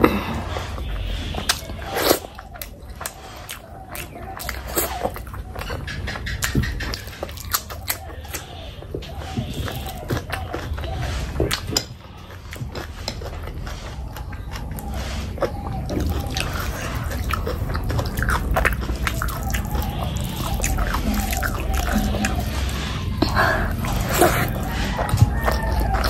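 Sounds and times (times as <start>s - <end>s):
person chewing wetly: 0.0s - 26.0s.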